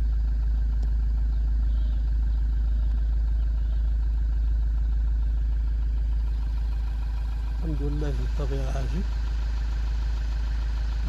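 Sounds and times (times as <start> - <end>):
loud steady low rumble: 0.0 - 11.0.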